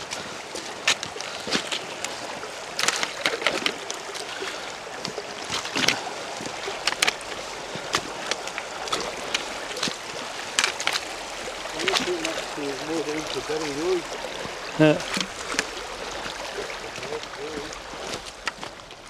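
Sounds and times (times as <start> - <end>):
boots splashing through water: 0.0 - 19.0
stream running over stones: 0.0 - 19.0.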